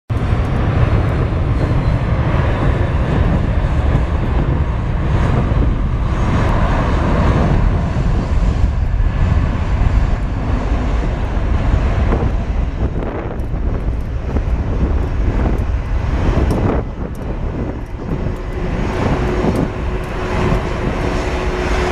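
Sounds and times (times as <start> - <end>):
jet engines idling: 0.1 - 21.9.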